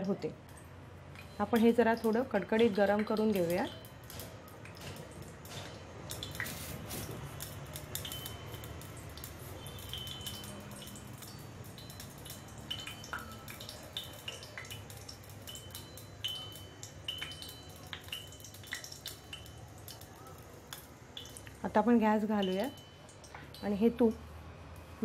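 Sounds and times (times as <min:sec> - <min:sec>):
ghee crackling in a pan: 0:00.0 - 0:25.0.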